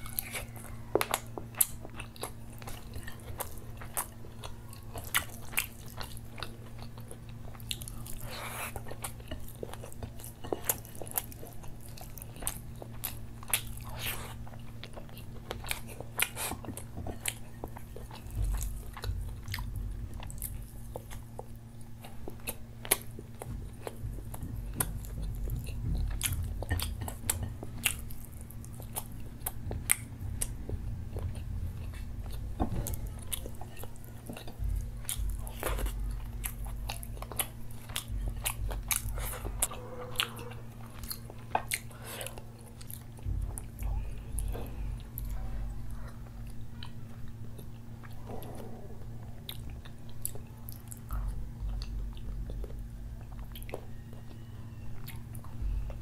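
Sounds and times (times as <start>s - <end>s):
chewing and crunching food: 0.0s - 56.0s
low hum: 0.0s - 56.0s.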